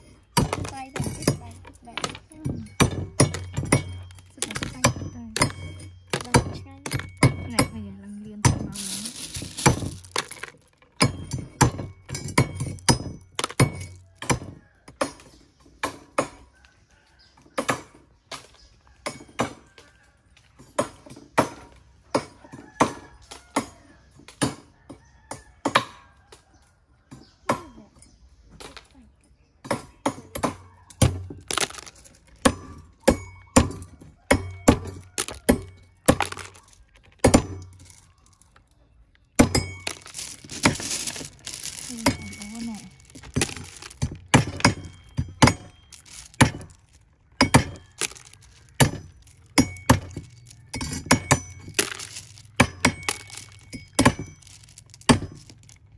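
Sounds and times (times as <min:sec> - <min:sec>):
cleavers chopping snail shells: 0:00.0 - 0:16.5, 0:17.4 - 0:19.9, 0:20.5 - 0:26.4, 0:29.6 - 0:55.9.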